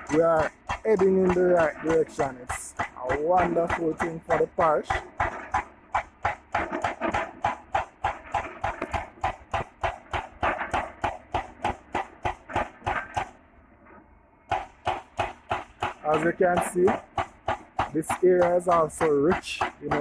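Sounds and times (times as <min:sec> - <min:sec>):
hydraulic breaker hammering rock: 0:00.0 - 0:13.4, 0:14.5 - 0:20.0.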